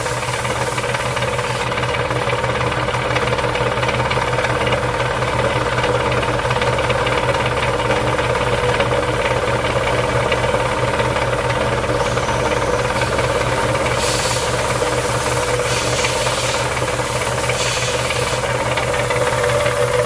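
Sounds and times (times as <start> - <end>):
air compressor running: 0.0 - 20.0.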